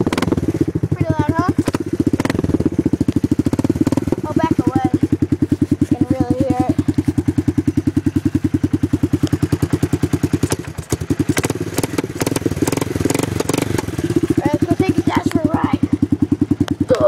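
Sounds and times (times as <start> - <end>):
quad bike engine idling: 0.0 - 17.0.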